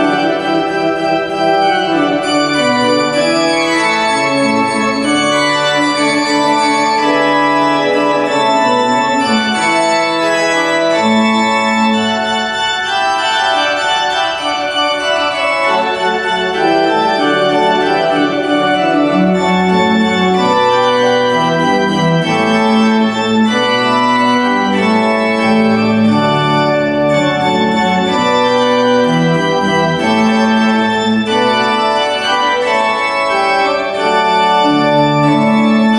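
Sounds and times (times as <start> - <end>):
church organ playing: 0.0 - 35.9.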